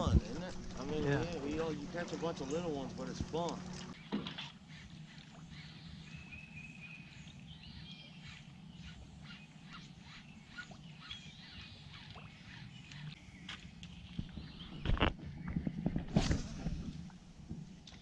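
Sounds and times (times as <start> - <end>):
faint birds chirping: 0.0 - 16.9
low steady hum: 0.0 - 18.0.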